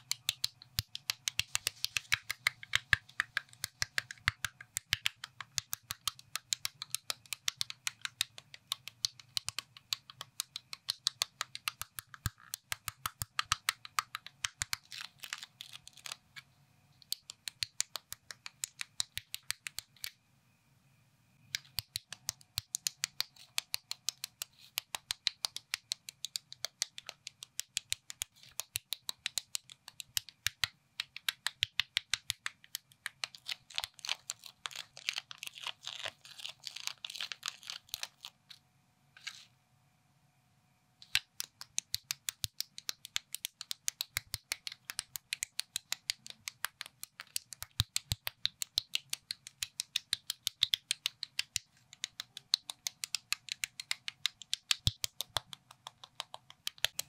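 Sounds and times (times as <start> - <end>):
plastic bricks clicking together: 0.0 - 16.2, 21.5 - 38.3, 41.0 - 57.0.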